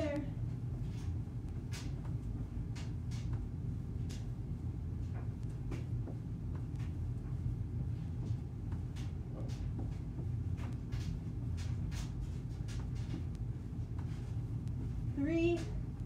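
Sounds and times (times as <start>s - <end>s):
footsteps on carpeted stairs: 0.0s - 16.0s
low steady hum: 0.0s - 16.0s.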